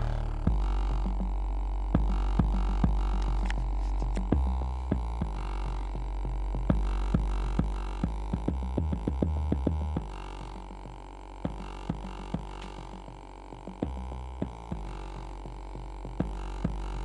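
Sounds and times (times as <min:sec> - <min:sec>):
deep bass notes from subwoofer: 0:00.0 - 0:17.0.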